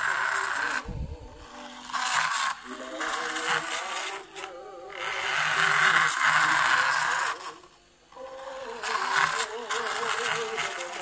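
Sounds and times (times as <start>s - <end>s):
song from cassette radio: 0.0s - 11.0s
toy truck rolling on hard floor: 0.0s - 11.0s.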